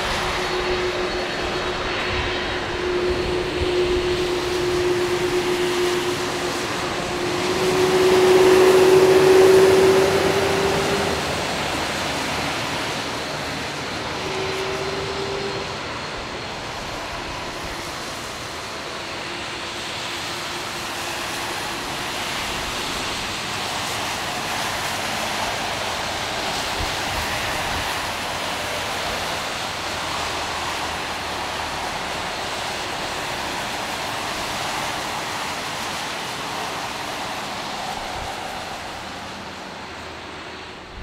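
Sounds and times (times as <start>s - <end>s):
jet engines rushing: 0.0s - 41.0s.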